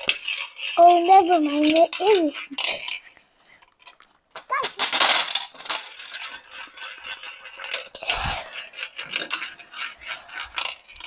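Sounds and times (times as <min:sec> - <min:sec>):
gumball machine rattling: 0:00.0 - 0:11.0.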